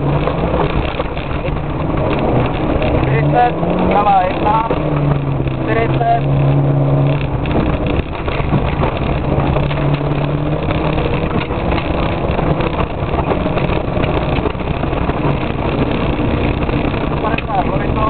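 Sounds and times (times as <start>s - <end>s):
rally car engine pulling hard: 0.0s - 18.0s
tyre and gravel noise: 0.0s - 18.0s.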